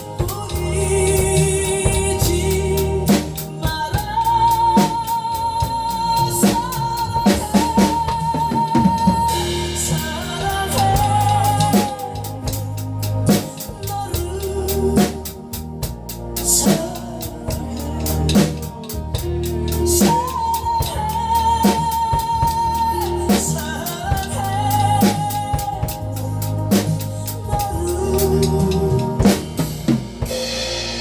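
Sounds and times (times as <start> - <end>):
drum kit playing: 0.0 - 31.0
recorded pop song with vocals: 0.0 - 31.0.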